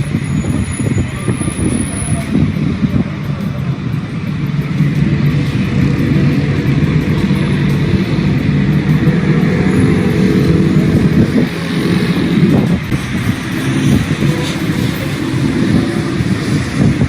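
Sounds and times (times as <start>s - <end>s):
constant rushing noise: 0.0s - 17.0s
vehicle engine hum: 0.0s - 17.0s.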